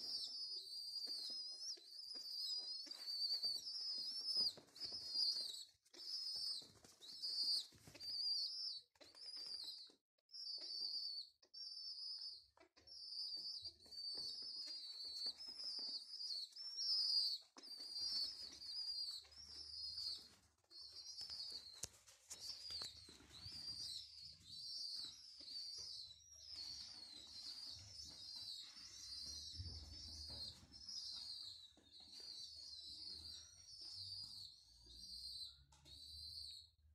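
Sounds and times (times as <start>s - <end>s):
pigeon squabs peeping: 0.0s - 36.5s.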